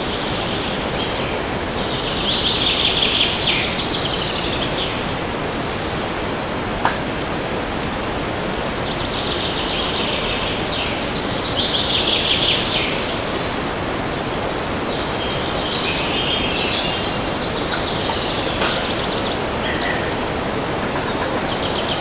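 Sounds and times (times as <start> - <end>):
songbirds singing: 0.0 - 22.0
wind through trees: 0.0 - 22.0.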